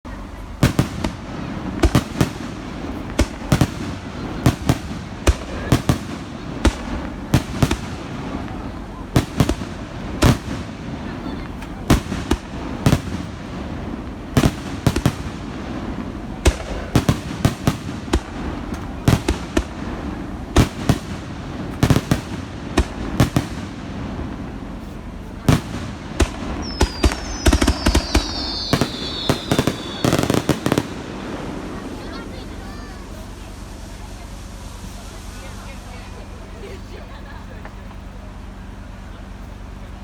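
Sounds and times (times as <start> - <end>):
fireworks banging and popping: 0.1 - 40.0
whistling fireworks: 0.1 - 40.0.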